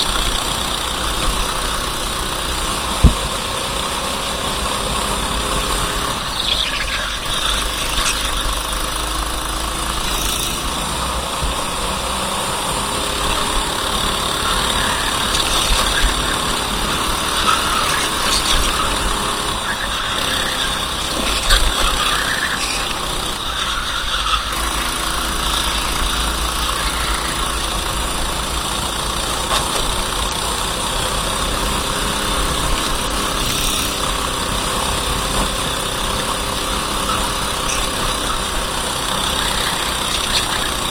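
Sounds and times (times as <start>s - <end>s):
kart engine running: 0.0s - 40.9s.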